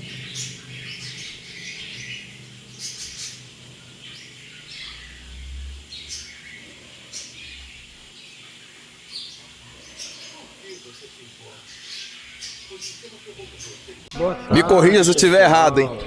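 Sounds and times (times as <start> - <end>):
small songbirds chirping: 0.0 - 14.1.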